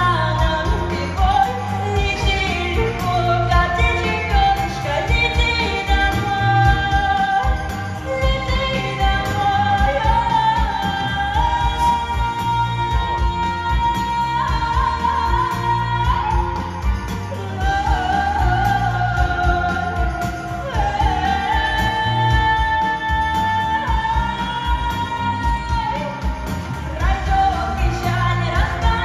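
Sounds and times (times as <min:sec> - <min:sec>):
pop song wordless singing: 0:00.0 - 0:29.0.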